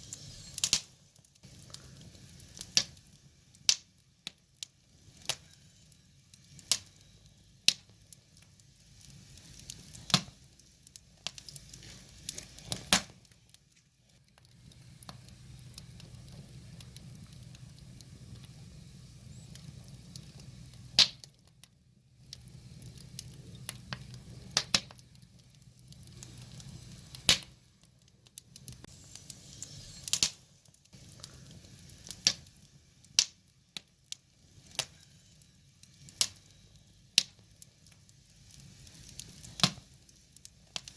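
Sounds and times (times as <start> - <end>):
fire pops and snaps: 0.0 - 40.9
low rumble of flames: 0.0 - 40.9
wood fire crackling: 0.0 - 40.9.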